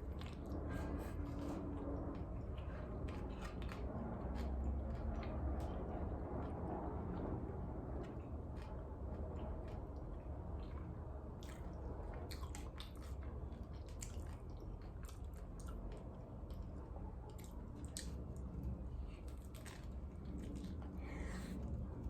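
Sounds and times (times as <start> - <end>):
close eating sounds: 0.0 - 22.0
steady low hum: 0.0 - 22.0.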